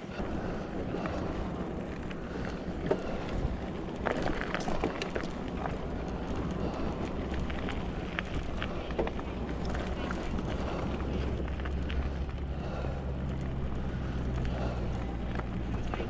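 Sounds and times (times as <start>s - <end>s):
low rumble of bike on mud: 0.0s - 16.0s
steady low hum: 0.0s - 16.0s.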